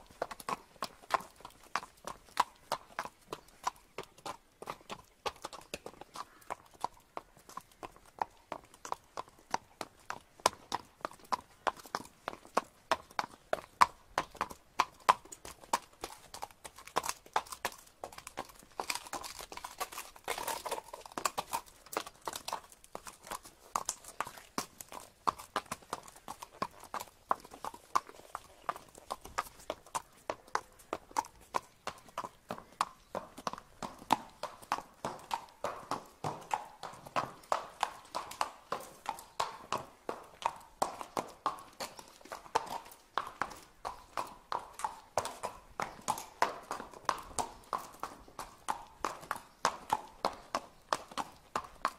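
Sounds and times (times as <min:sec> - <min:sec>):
horse hooves clip-clopping: 0:00.0 - 0:51.9.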